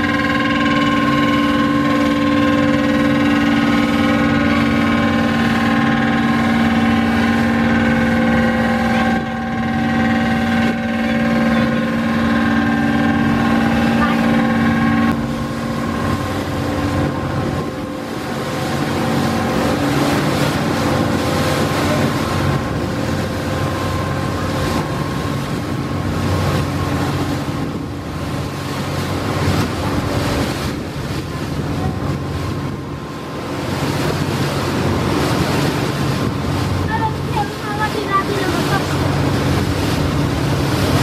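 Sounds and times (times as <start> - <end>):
boat engine humming: 0.0 - 41.0
water rushing along hull: 0.0 - 41.0
wind buffeting microphone: 0.0 - 41.0.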